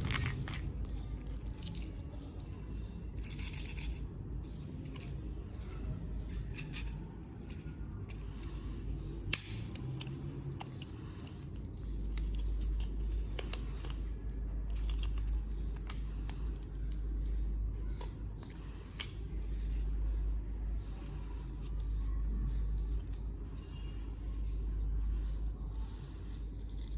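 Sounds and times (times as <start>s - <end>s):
small parts clicking and clinking: 0.0s - 26.9s.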